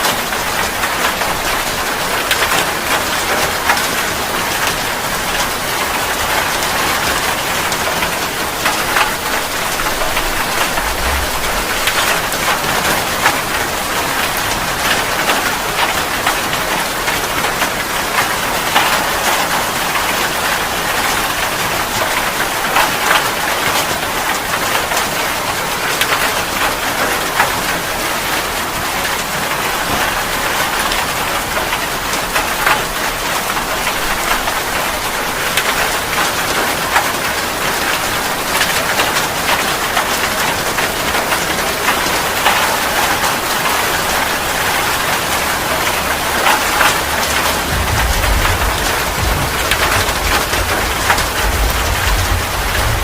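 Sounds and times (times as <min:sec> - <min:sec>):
rain falling on a surface: 0:00.0 - 0:53.0.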